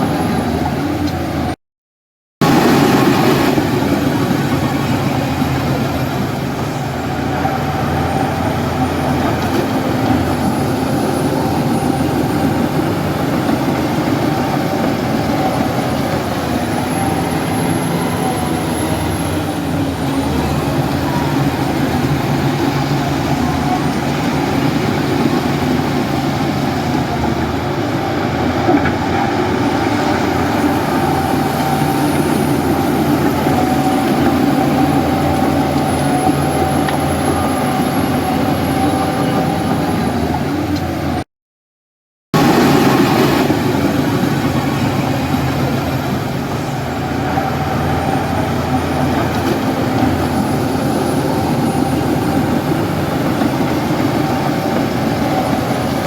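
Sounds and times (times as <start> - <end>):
heavy diesel engine running: 0.0 - 1.6, 2.4 - 41.2, 42.4 - 56.0.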